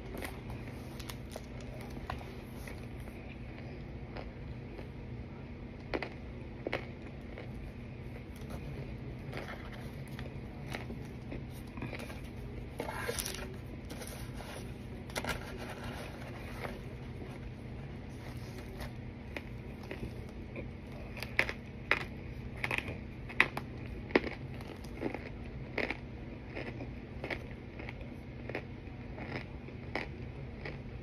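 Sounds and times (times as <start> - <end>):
chewing and crunching: 0.0 - 5.2, 5.8 - 31.0.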